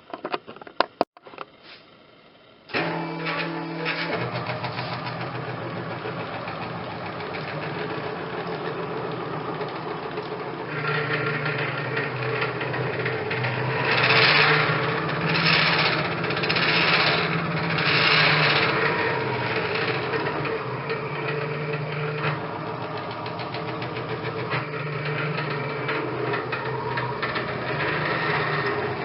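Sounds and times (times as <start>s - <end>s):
stepper motors whining: 2.6s - 29.0s
rasping motor surges: 2.7s - 29.0s.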